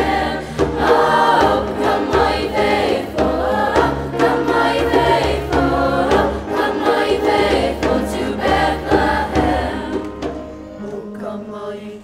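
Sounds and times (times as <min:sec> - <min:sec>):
children's chorus singing: 0:00.0 - 0:12.0
musical accompaniment: 0:00.0 - 0:12.0.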